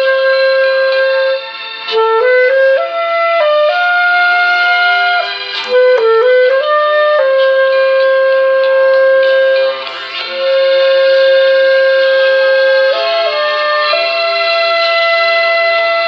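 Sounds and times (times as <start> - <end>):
clarinet playing slow melody: 0.0 - 16.0.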